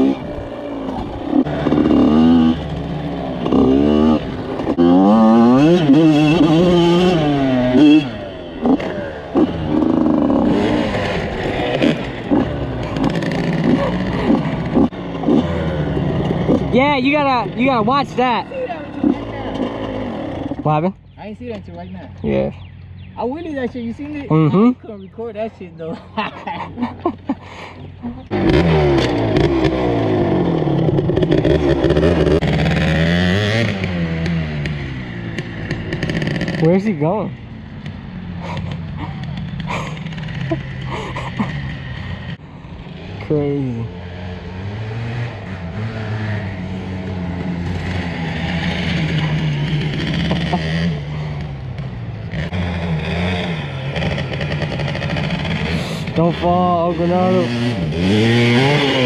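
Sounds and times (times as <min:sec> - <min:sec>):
two-stroke engine revving: 0:00.0 - 0:21.0, 0:26.2 - 0:59.0.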